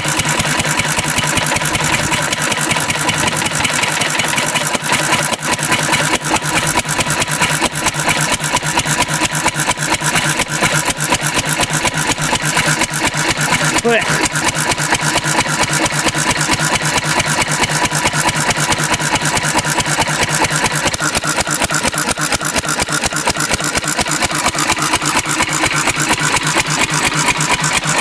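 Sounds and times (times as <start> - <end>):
stationary engine running: 0.0 - 28.0.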